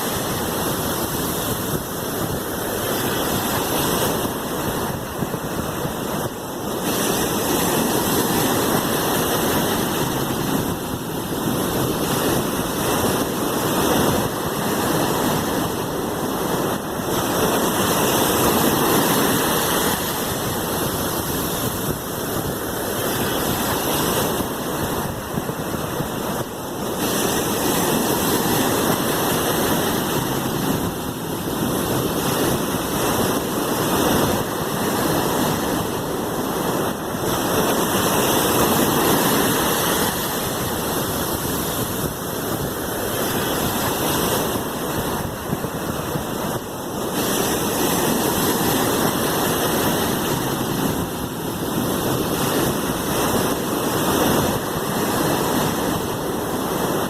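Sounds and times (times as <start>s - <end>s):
sea waves surf: 0.0s - 57.0s.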